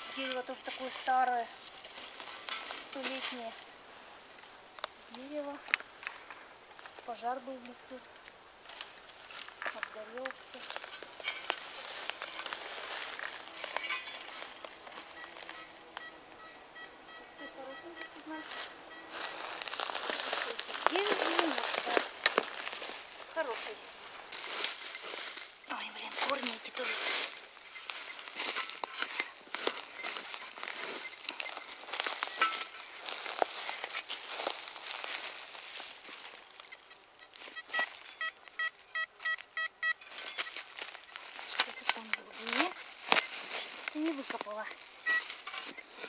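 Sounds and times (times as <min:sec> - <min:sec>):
crackling of dry twigs: 0:00.0 - 0:46.0
faint steady tones: 0:00.0 - 0:46.0.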